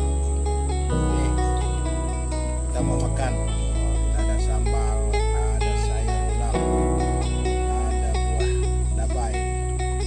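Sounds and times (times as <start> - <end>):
held bass: 0.0 - 10.0
plucked guitar notes: 0.0 - 10.0.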